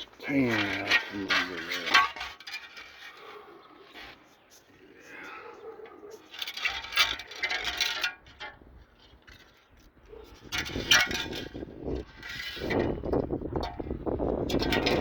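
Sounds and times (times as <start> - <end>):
metal clinking and rattling: 0.0 - 4.2, 5.3 - 15.0.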